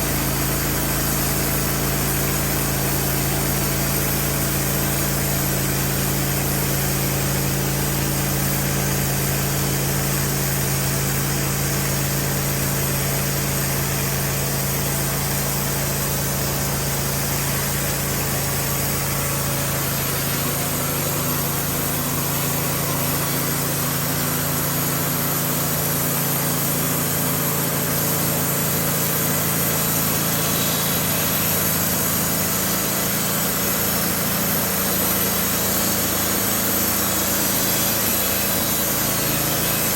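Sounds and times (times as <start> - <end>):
band sawmill milling a log: 0.0 - 39.9.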